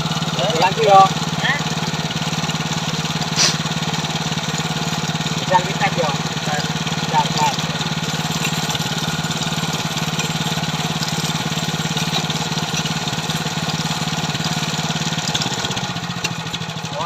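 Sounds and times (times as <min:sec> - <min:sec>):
small tiller engine running: 0:00.0 - 0:17.0.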